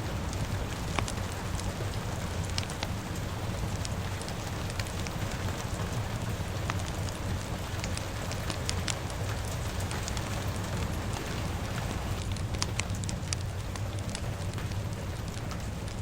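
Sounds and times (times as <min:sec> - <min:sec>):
fire crackling and popping: 0:00.0 - 0:16.0
steady rainfall: 0:00.0 - 0:16.0.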